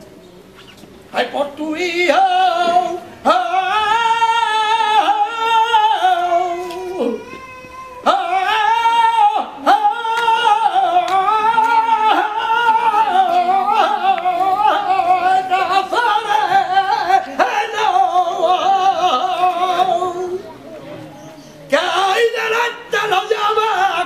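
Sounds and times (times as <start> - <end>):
solo voice singing unaccompanied: 1.1 - 20.6, 21.7 - 24.0.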